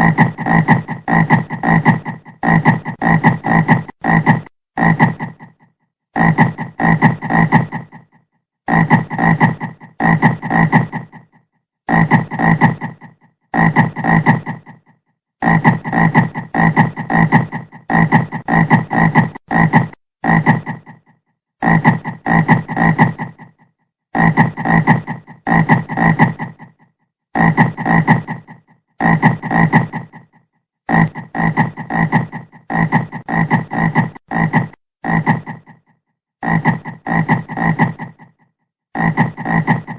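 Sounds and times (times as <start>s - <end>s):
frog croaking: 0.0s - 23.6s, 30.9s - 38.4s, 39.0s - 39.9s.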